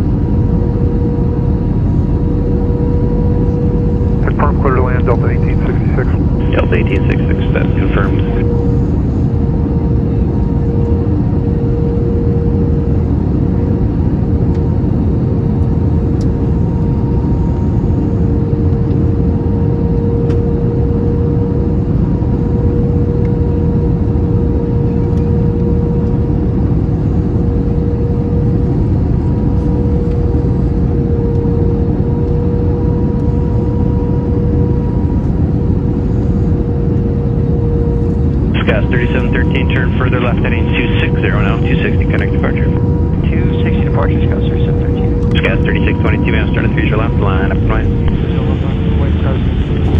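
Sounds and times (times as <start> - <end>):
aircraft engines and airflow: 0.0 - 49.9
mid-pitched hum: 0.0 - 49.9.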